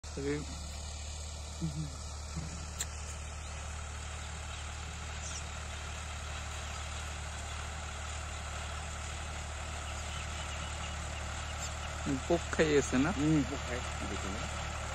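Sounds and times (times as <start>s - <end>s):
tractor engine droning: 0.0s - 14.9s.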